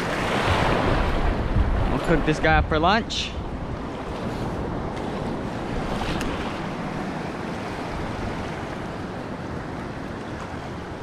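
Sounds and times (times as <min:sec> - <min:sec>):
waves washing over rocks: 0:00.0 - 0:11.0
wind on microphone: 0:00.0 - 0:11.0.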